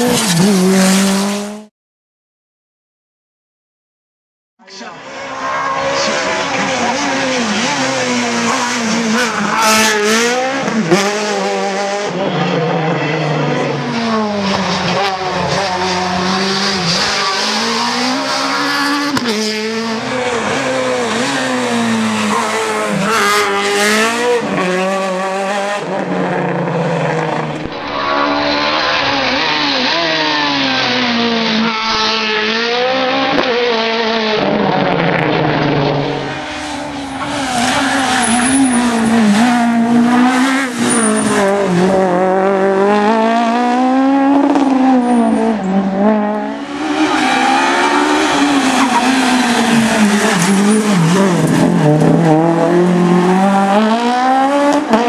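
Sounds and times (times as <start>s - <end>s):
rally car engines revving: 0.0s - 1.7s, 4.7s - 55.0s.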